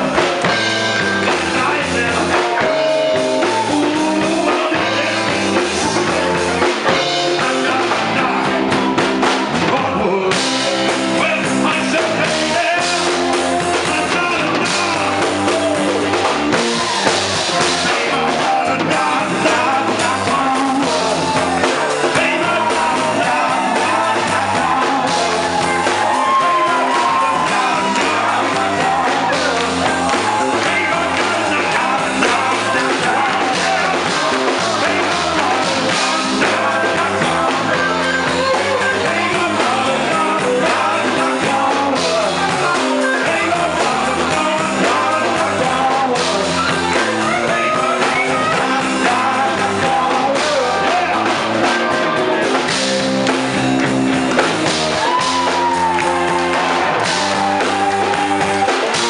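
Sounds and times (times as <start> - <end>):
man singing into a microphone: 0.0 - 53.7
drum kit: 0.0 - 59.0
electric bass: 0.0 - 59.0
electric guitar: 0.0 - 59.0.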